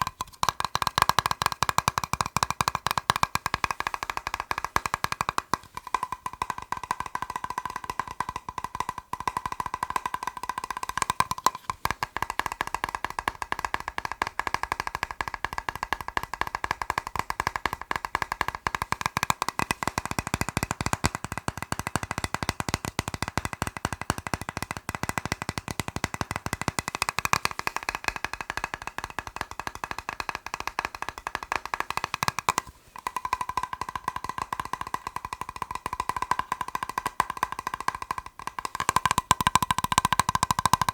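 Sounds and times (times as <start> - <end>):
rapid tapping on plastic box: 0.0 - 40.9.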